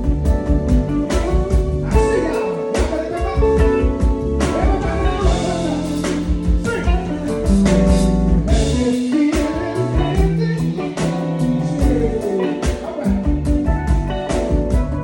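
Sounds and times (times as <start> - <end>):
bass line: 0.0 - 15.0
blues guitar: 0.0 - 15.0
drum hits: 0.0 - 15.0.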